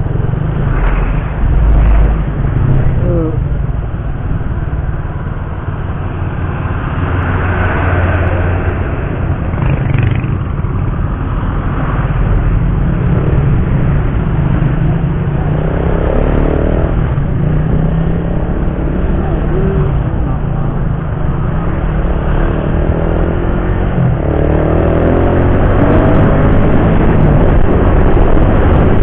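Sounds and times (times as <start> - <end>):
wind noise on microphone: 0.0 - 5.4, 6.4 - 29.0
road traffic: 0.0 - 29.0.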